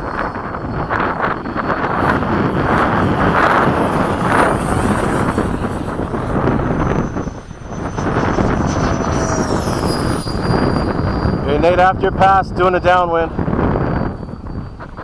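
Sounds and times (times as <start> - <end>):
rc jet rushing with high whine: 0.0 - 15.0
wind buffeting microphone: 0.0 - 15.0.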